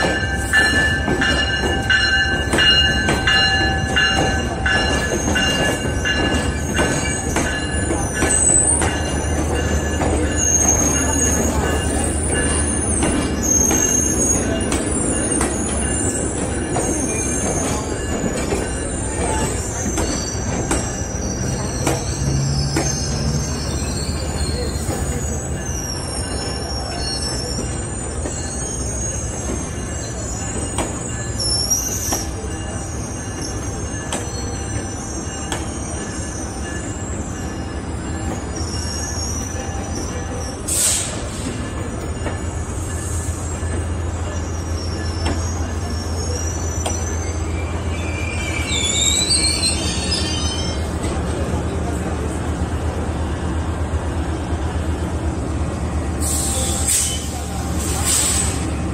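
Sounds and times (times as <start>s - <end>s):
train rumble: 0.0s - 58.9s
train wheels squealing on rails: 0.0s - 58.9s.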